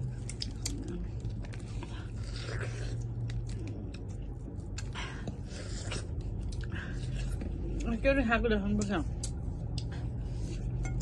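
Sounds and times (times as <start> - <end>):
wet chewing: 0.0 - 8.0, 8.6 - 11.0
steady low hum: 0.0 - 11.0.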